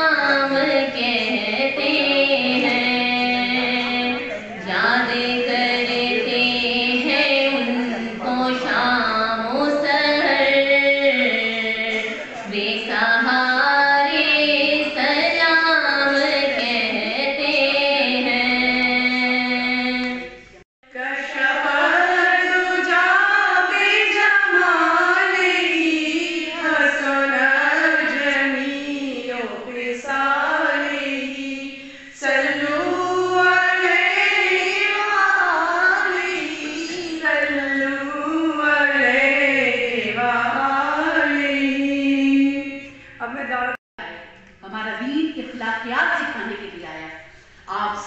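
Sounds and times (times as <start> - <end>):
woman chanting: 0.0 - 48.0.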